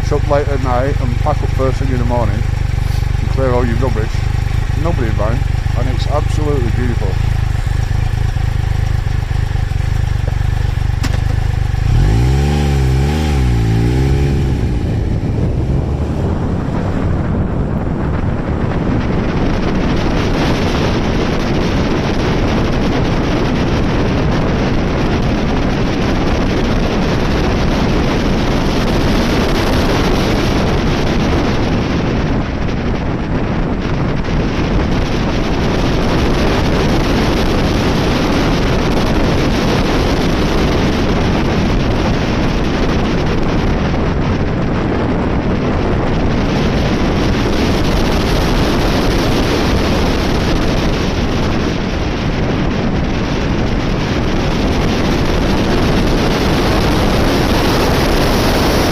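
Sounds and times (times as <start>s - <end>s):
motorcycle engine revving: 0.0s - 58.9s
wind noise on microphone: 0.0s - 58.9s.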